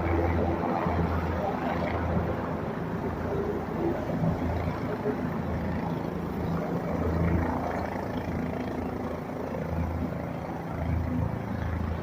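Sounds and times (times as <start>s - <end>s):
low humming engine: 0.0s - 12.0s.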